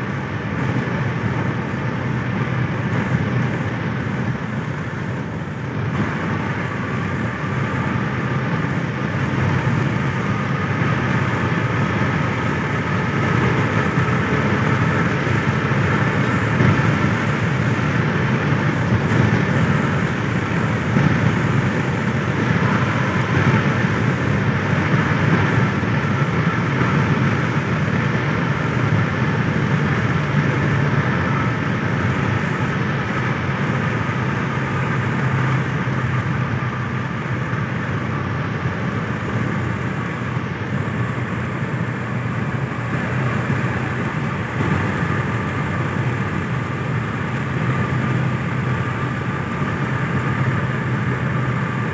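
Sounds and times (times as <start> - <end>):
car engine and tyre noise: 0.0 - 51.9.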